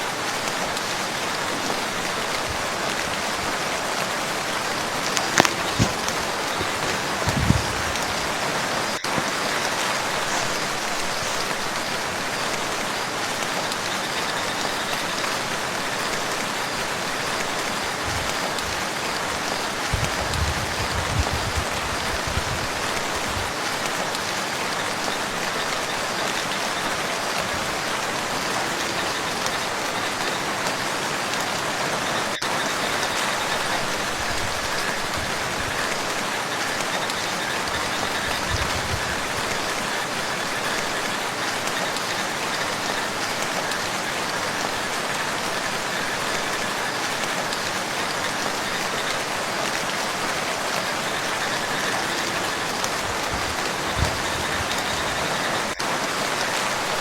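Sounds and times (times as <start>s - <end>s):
rain falling on a lake: 0.0s - 57.0s.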